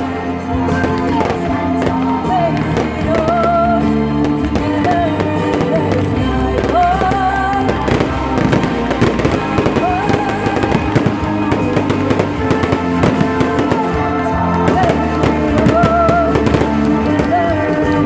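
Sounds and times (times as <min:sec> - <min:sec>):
fireworks bursting and crackling: 0:00.0 - 0:18.0
loud music: 0:00.0 - 0:18.0.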